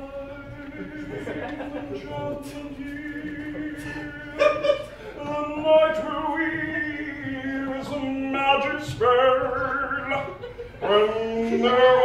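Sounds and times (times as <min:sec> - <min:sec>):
man singing long notes: 0:00.0 - 0:12.0.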